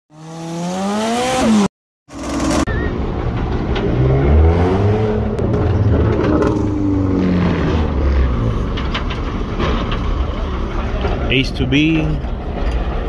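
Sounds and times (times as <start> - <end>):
car engine running: 2.1 - 13.0.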